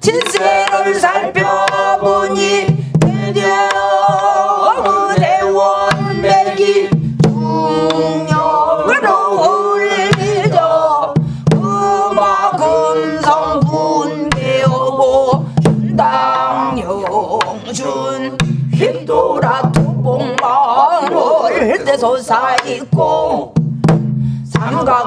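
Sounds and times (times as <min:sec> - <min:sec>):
barrel drum strokes: 0:00.0 - 0:20.6
woman singing: 0:00.0 - 0:23.6, 0:24.5 - 0:25.0.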